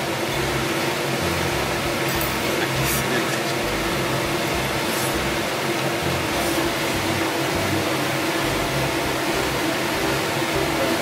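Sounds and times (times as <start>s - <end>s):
ventilation fans humming: 0.0s - 11.0s.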